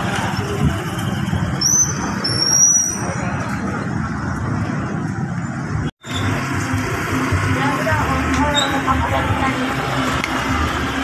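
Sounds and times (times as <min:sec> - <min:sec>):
passing motor vehicles rumbling: 0:00.0 - 0:11.0.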